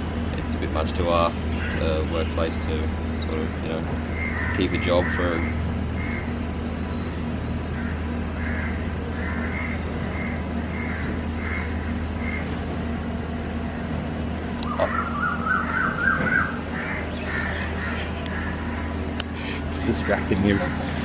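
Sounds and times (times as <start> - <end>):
low hum: 0.0 - 21.0
birds calling: 0.1 - 21.0.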